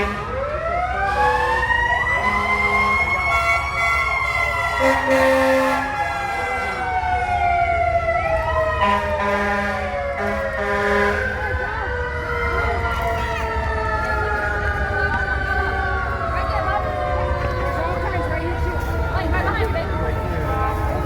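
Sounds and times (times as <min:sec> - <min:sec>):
fire truck siren wailing: 0:00.0 - 0:21.0.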